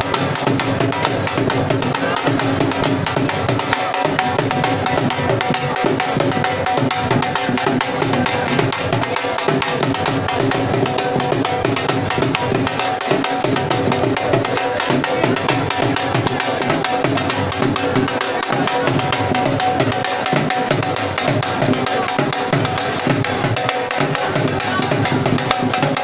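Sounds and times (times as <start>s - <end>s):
background music with percussion: 0.0s - 26.0s.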